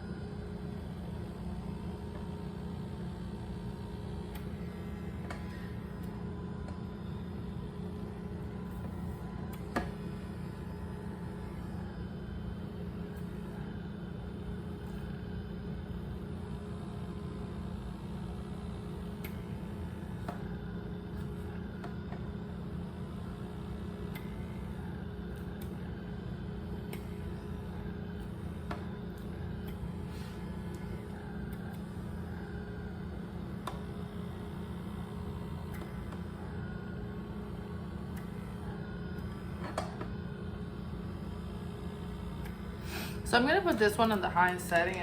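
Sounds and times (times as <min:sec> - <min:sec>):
small vacuum device humming: 0:00.0 - 0:45.0.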